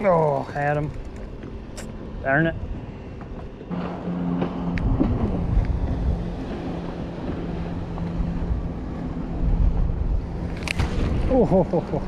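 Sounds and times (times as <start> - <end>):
boat motor humming: 0.0 - 12.0
wind rumble on microphone: 0.0 - 12.0.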